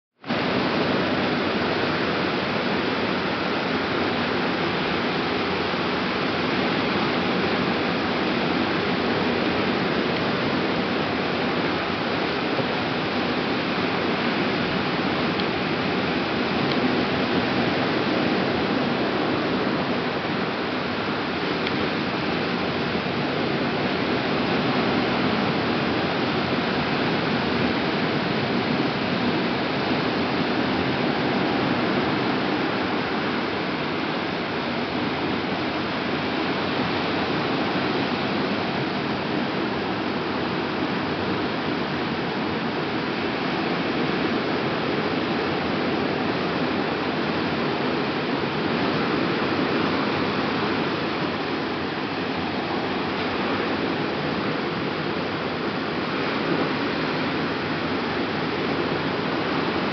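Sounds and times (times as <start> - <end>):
ocean waves breaking: 0.2 - 59.9.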